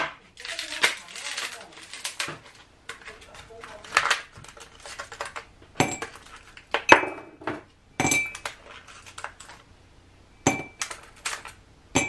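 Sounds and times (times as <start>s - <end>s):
kitchenware clinking: 0.0s - 9.6s, 10.4s - 12.0s.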